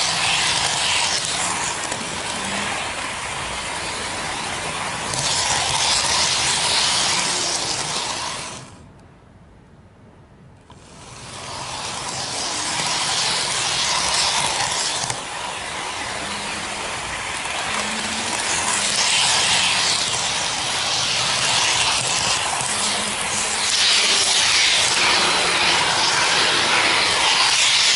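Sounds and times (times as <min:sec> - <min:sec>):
model train hissing on track: 0:00.0 - 0:08.8, 0:10.7 - 0:27.9.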